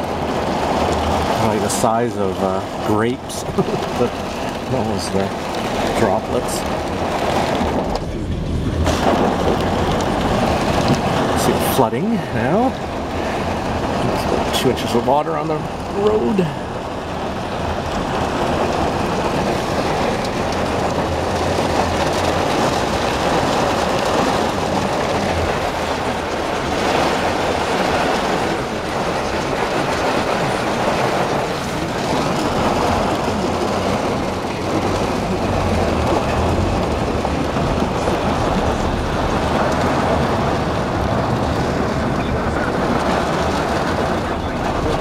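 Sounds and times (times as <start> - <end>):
heavy rain drumming on car: 0.0 - 45.0
tyres through floodwater: 0.0 - 45.0.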